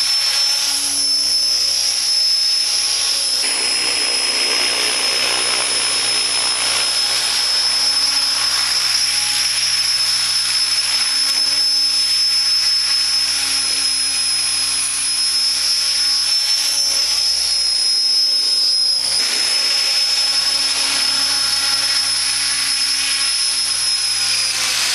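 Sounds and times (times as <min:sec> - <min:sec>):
electric motor whine: 0:00.0 - 0:24.9
helicopter rotors whooshing: 0:01.4 - 0:24.9.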